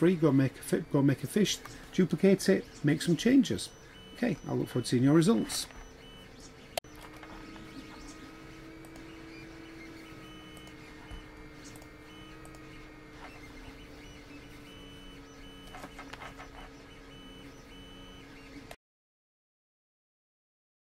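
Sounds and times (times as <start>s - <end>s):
computer electrical hum and whine: 0.0s - 18.8s.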